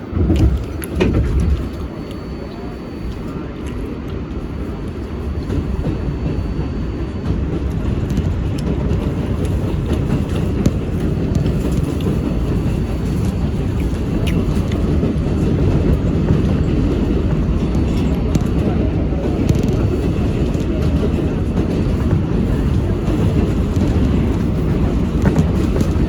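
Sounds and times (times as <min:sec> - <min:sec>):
subway train wheels rumbling: 0:00.0 - 0:26.0.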